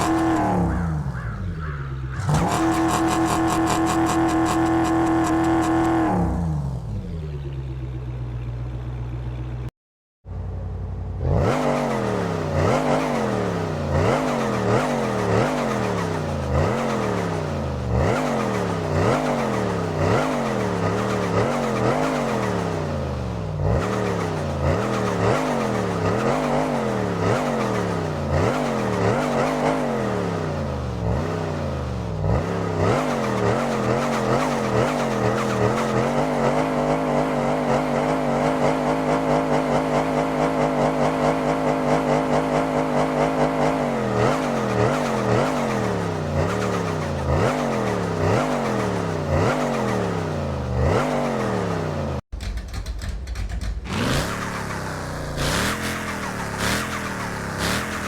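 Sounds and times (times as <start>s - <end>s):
car engine revving: 1.6s - 7.1s, 11.1s - 58.0s.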